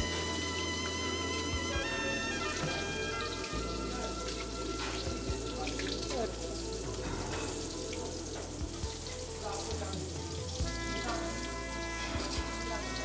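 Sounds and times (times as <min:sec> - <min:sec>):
fish frying in hot oil: 0:00.0 - 0:13.0
instrumental music with held notes: 0:00.0 - 0:13.0.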